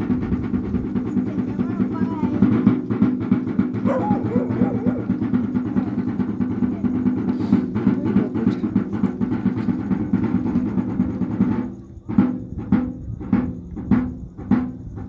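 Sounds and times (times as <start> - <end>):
drum beaten in a fast roll: 0.0 - 15.0.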